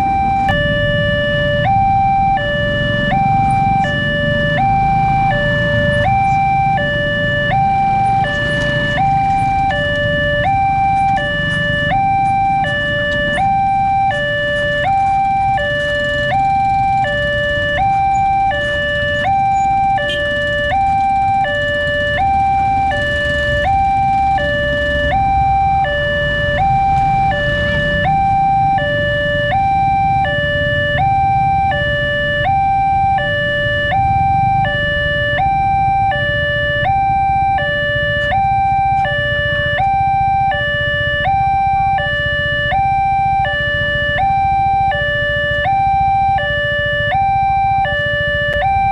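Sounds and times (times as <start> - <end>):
level-crossing two-tone alarm: 0.0 - 48.9
motorcycle and car engines rumbling: 0.0 - 48.9.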